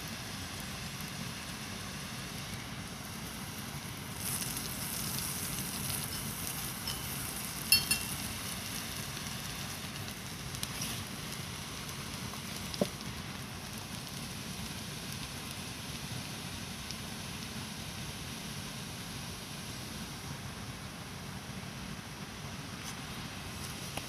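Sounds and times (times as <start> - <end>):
butter sizzling in a skillet: 0.0 - 19.9.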